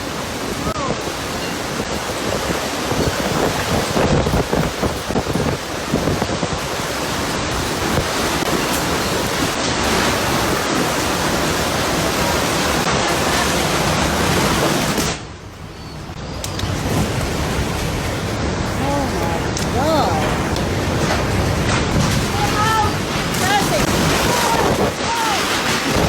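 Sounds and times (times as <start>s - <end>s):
heavy rain on microphone: 0.0s - 26.0s
storm wind: 0.0s - 26.0s.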